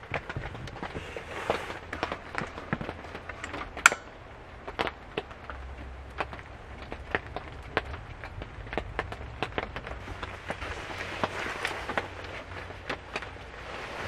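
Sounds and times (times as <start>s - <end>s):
raindrops on a metal roof: 0.0s - 14.0s.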